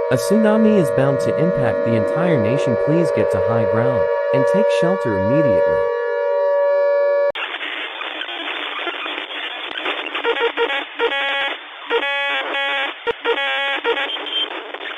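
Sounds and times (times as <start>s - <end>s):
alert siren: 0.0s - 7.3s, 10.2s - 14.9s
loud radio static: 0.1s - 5.8s, 7.4s - 14.9s.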